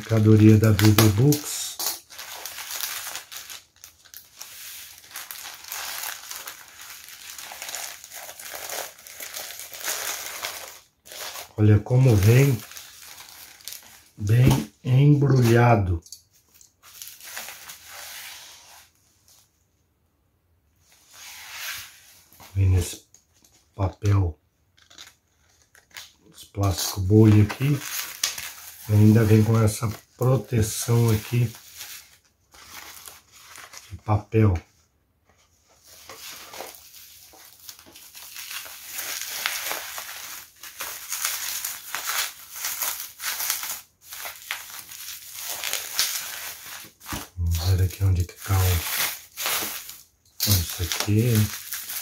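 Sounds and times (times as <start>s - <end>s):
bubble wrap crinkling: 0.0s - 19.5s, 24.6s - 34.1s, 35.3s - 52.0s.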